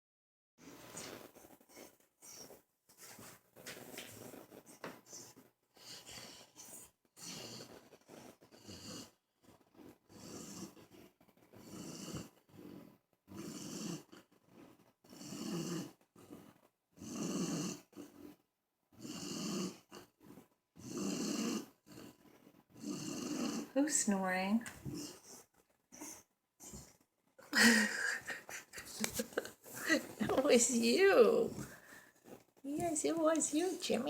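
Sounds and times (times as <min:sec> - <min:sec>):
pet snoring: 0:03.9 - 0:27.0, 0:27.6 - 0:34.0.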